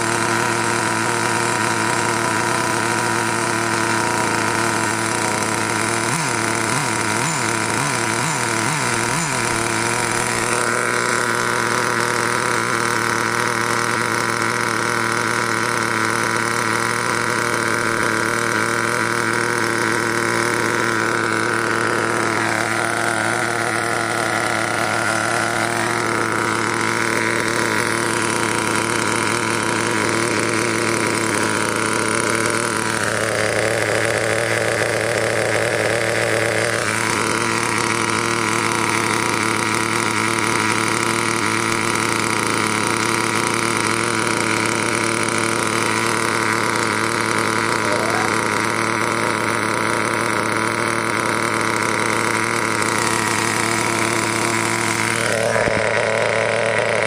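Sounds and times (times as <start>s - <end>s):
model engine idling with high buzz: 0.0s - 57.0s.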